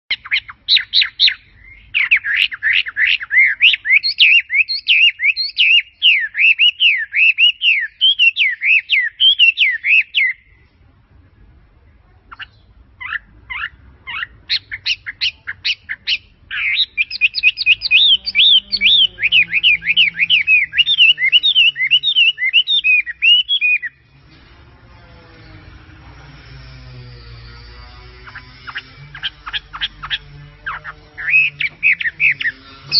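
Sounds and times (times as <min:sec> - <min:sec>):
songbird twittering: 0:00.1 - 0:10.6, 0:12.3 - 0:24.1, 0:27.6 - 0:32.9.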